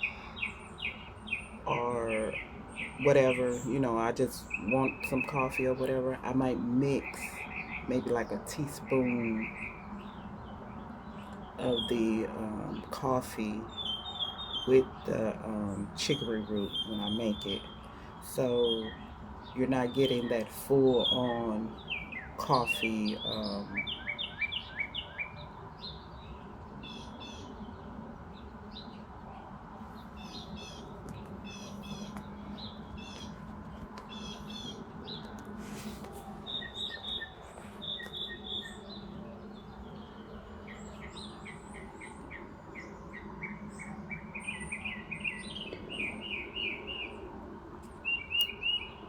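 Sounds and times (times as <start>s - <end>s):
songbirds chirping and singing: 0.0s - 49.0s.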